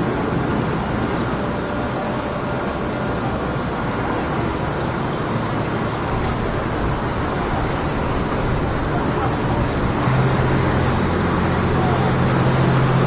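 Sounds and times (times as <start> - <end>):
boat engine rumble: 0.0 - 13.0
moving water: 0.0 - 13.0.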